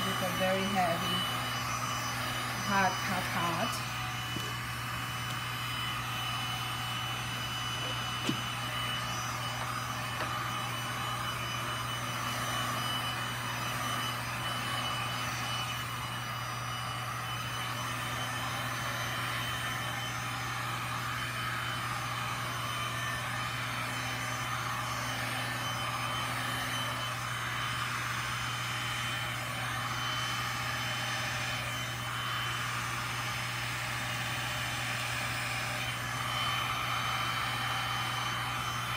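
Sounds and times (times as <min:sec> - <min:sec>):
heat gun blowing air: 0:00.0 - 0:38.9.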